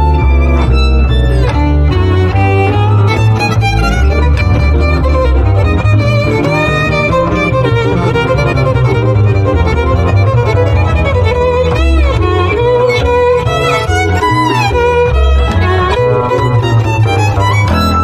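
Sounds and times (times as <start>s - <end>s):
plucked double bass: 0.0s - 18.0s
rhythm guitar: 0.0s - 18.0s
violin melody with vibrato: 0.0s - 18.0s.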